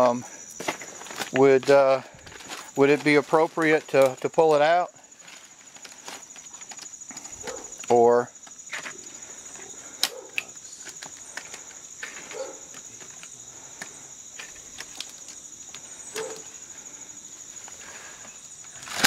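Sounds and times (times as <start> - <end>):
crickets trilling: 0.0 - 19.0
vinyl siding clicking and rustling: 0.6 - 16.6.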